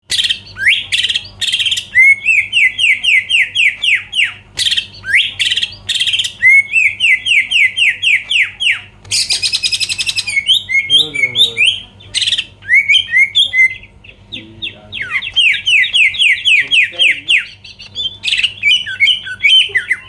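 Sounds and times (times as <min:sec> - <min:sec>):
bird singing whistled phrases: 0:00.1 - 0:20.0.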